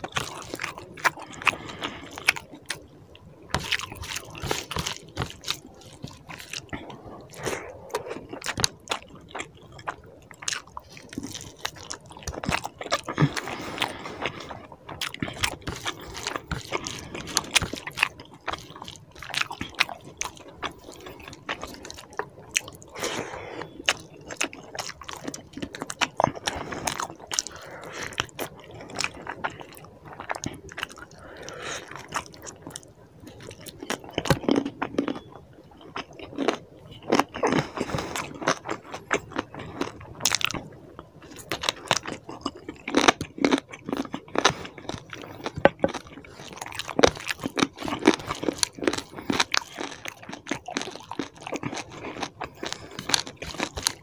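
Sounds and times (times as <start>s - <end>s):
chewing and lip smacks: 0.0s - 54.0s.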